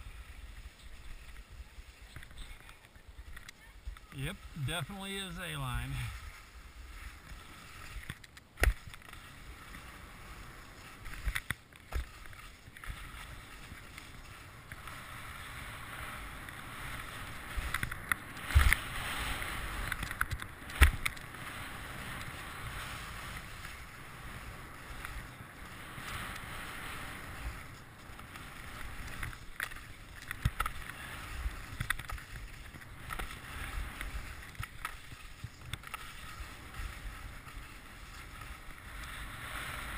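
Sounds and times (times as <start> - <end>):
skis scraping over packed snow: 0.0 - 39.9.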